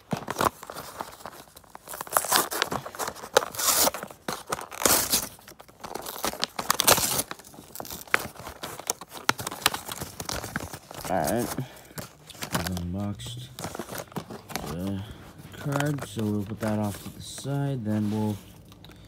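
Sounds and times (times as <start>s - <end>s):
cardboard tearing and crinkling: 0.0s - 18.4s.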